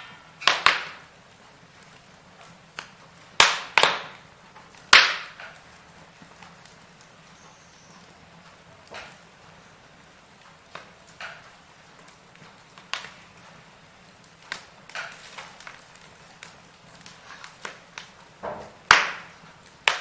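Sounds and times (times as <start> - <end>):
faint steady hiss: 0.0 - 20.0
wood fire crackling and popping: 0.0 - 20.0.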